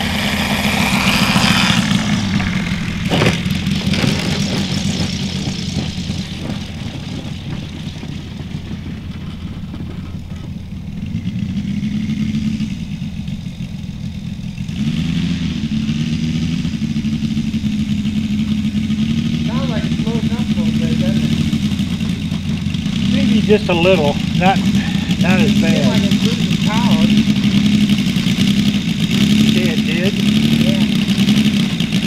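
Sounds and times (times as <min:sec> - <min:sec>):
model plane engine running: 0:00.0 - 0:32.0.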